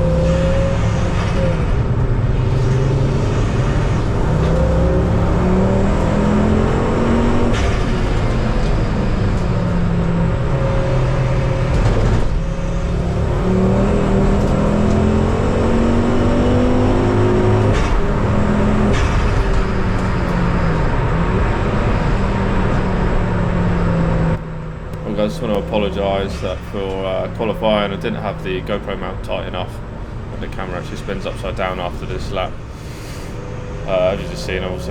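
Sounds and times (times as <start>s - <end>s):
race car engine accelerating: 0.0s - 34.9s.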